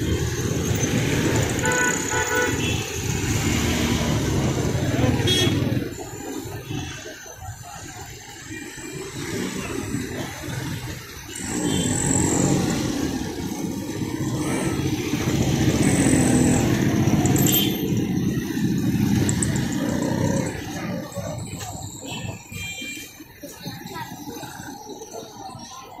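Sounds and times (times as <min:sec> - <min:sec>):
rickshaw and motorcycle engines passing: 0:00.0 - 0:26.0.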